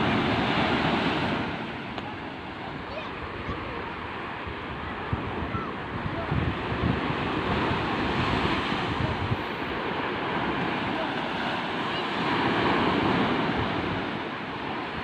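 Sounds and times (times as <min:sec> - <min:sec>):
sea waves washing ashore: 0:00.0 - 0:15.0
wind buffeting microphone: 0:00.0 - 0:15.0.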